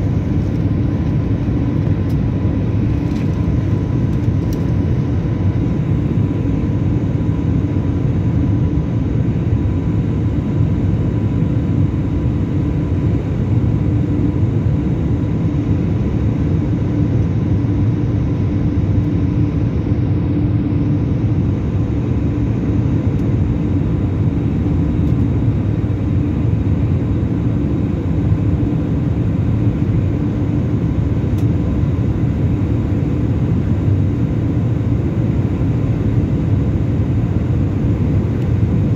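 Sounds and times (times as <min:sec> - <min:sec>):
faint steady whine: 0:00.0 - 0:38.9
jet engine cabin noise: 0:00.0 - 0:38.9.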